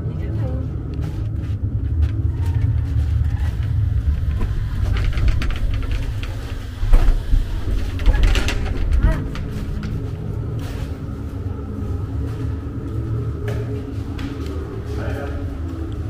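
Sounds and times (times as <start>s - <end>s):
uneven low rumble: 0.0s - 16.0s.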